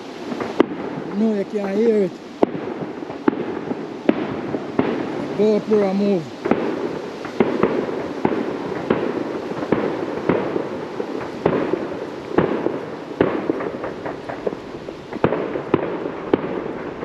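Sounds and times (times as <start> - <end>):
fireworks bangs and pops: 0.0 - 17.0
fireworks crackle: 0.0 - 17.0.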